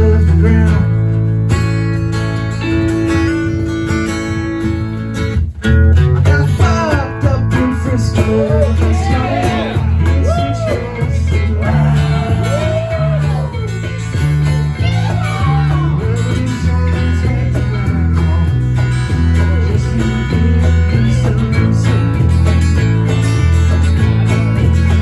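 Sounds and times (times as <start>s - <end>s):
guitar lead with bending notes: 0.0s - 25.0s
stepping bass line: 0.0s - 25.0s.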